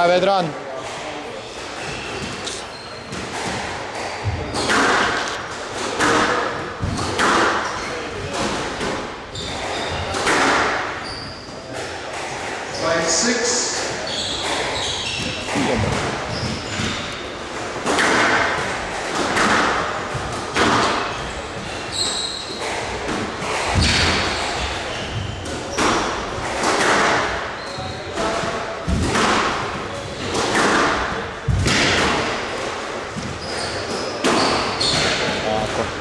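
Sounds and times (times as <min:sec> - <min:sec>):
squash ball hitting rackets and walls: 0:00.7 - 0:36.0.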